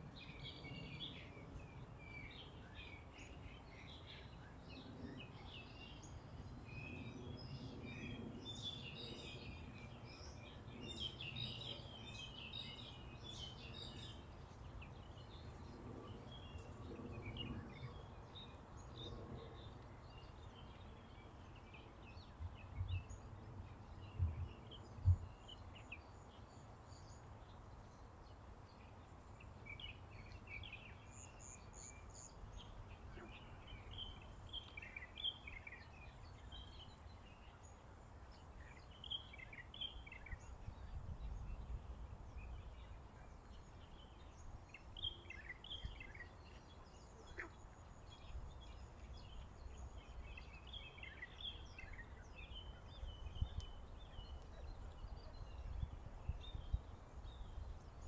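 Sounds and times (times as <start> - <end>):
birds chirping: 0.3 - 58.0.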